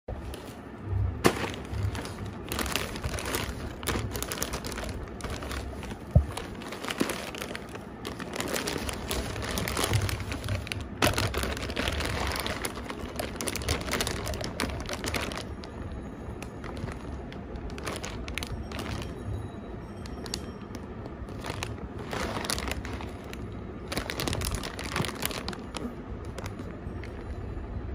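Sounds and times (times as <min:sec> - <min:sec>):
plastic packaging crinkling: 0:01.2 - 0:19.3, 0:20.0 - 0:27.3.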